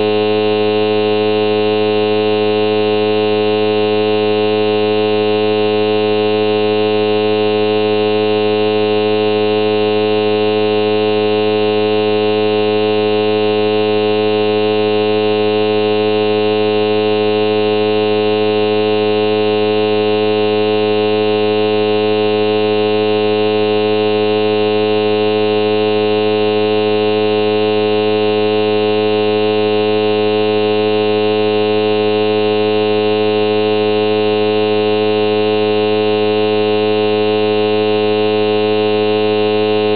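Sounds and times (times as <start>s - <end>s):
loud steady electronic buzz: 0.0s - 39.9s.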